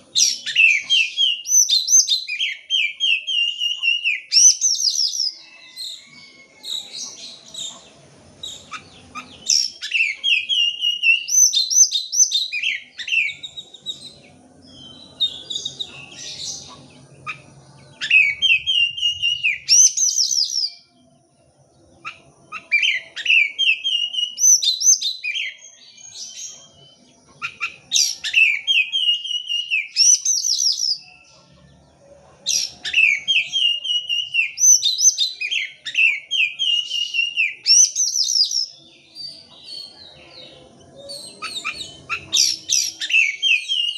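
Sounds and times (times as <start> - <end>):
magpie-robin singing: 0.0 - 20.9, 21.9 - 43.9.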